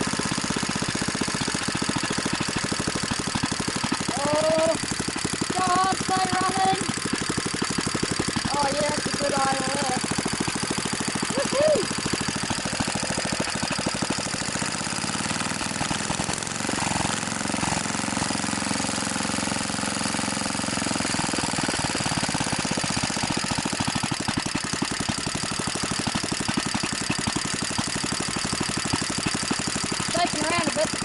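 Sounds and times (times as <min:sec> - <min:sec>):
single-cylinder engine running: 0:00.0 - 0:31.0.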